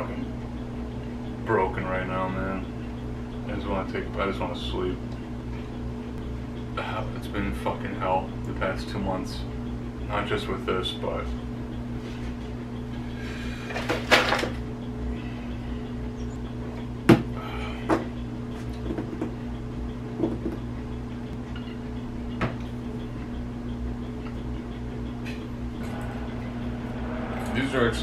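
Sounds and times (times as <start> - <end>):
low hum: 0.0 - 8.8, 11.2 - 28.0.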